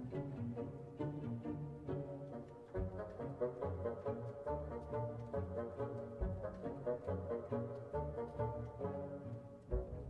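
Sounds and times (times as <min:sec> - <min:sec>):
orchestral music with brass and strings: 0:00.0 - 0:10.0.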